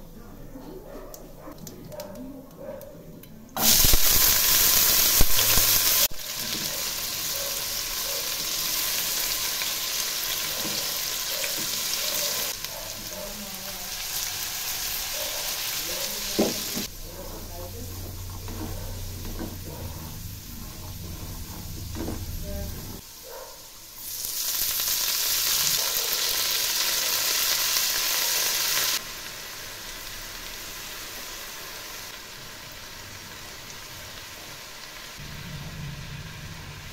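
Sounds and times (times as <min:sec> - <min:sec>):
potatoes sizzling in hot oil: 0:03.6 - 0:36.9.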